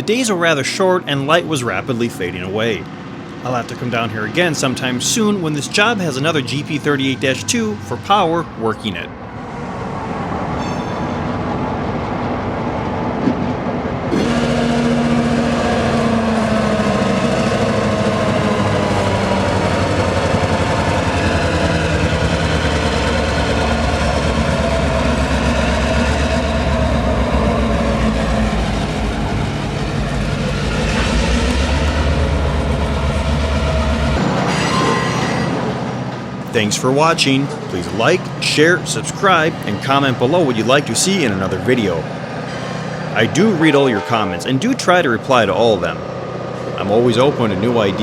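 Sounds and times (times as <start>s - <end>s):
locomotive diesel engine rumbling: 0.0s - 10.6s, 13.8s - 48.0s.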